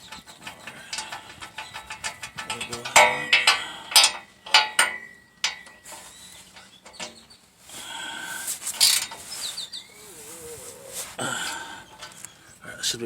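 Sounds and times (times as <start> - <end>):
bird chirping: 0.0 - 2.9, 4.3 - 13.0.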